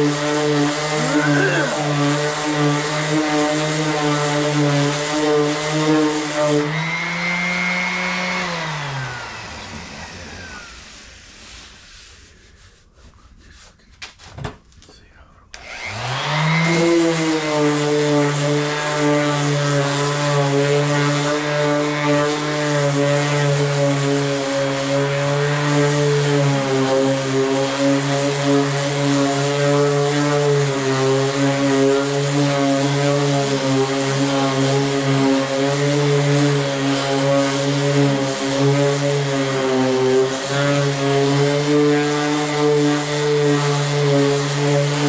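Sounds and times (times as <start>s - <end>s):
power sander running: 0.0s - 12.0s, 15.6s - 45.0s.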